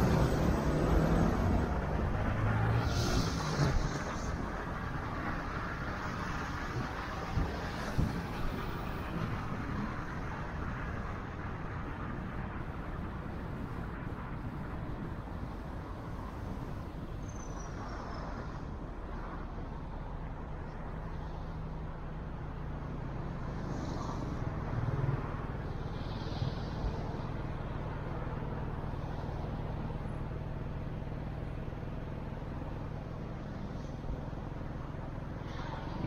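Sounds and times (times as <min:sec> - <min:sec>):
tyre and road noise: 0:00.0 - 0:36.0.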